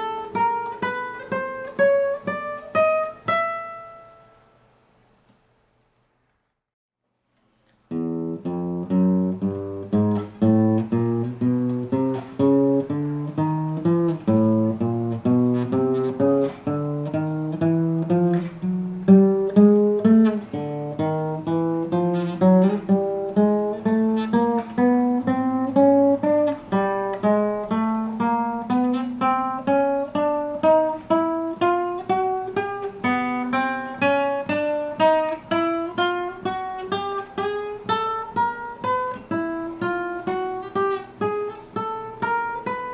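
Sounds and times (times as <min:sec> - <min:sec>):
acoustic guitar plucked notes: 0:00.0 - 0:04.5, 0:07.9 - 0:42.9.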